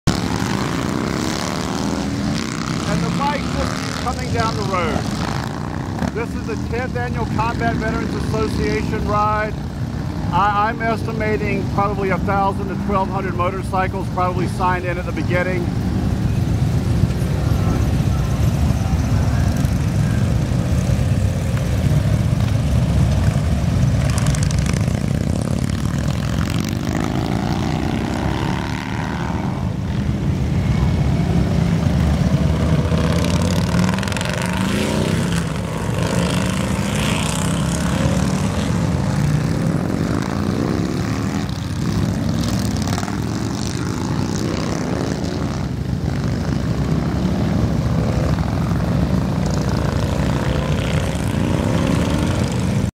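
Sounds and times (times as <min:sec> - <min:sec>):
motorcycles riding past: 0:00.0 - 0:52.9.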